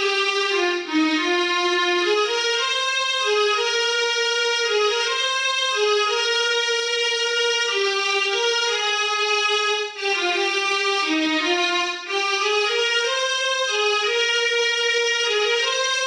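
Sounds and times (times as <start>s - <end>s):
mini keyboard slow melody: 0.0s - 16.0s.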